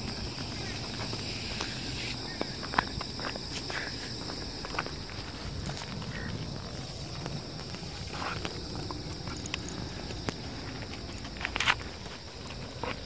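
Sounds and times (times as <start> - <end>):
footsteps on asphalt: 0.0 - 13.0
high-pitched insect chorus: 0.0 - 13.0.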